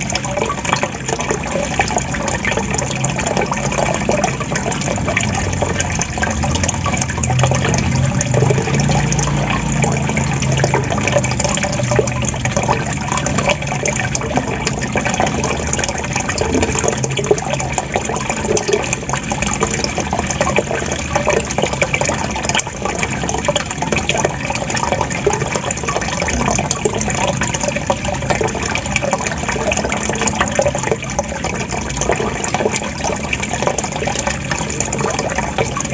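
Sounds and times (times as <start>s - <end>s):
waterfall gurgling and splashing: 0.0s - 35.9s.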